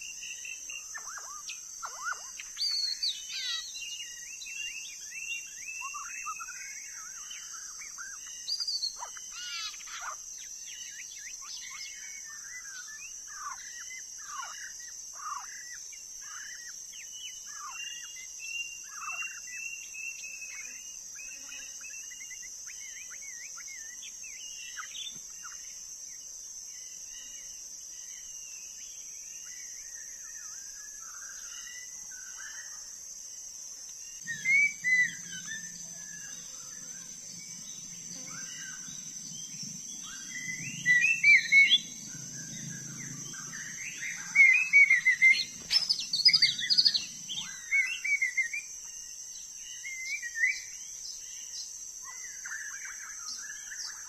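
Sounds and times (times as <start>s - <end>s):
high-pitched insect buzz: 0.0s - 54.0s
songbirds singing: 0.0s - 54.0s.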